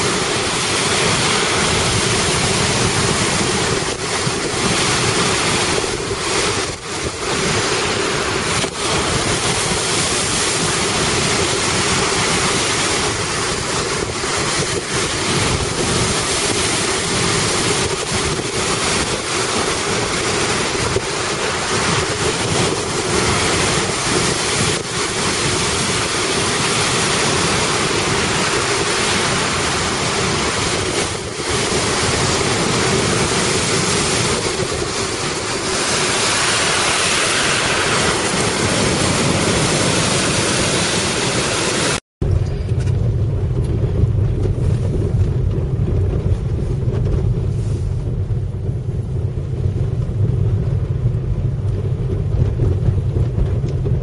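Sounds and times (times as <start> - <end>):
storm waves breaking: 0.0 - 54.0
wind gusting on microphone: 0.0 - 54.0.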